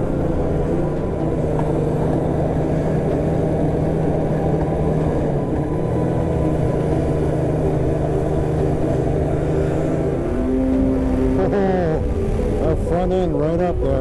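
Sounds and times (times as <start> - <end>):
snowmobile engine droning: 0.0 - 14.0.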